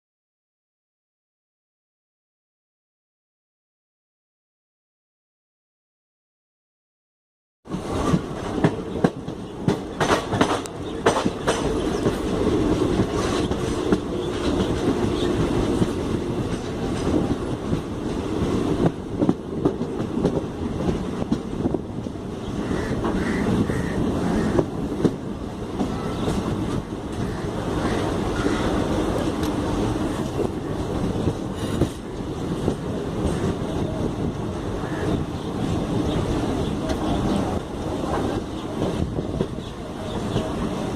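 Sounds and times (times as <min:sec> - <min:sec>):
train rushing past: 0:07.7 - 0:40.9.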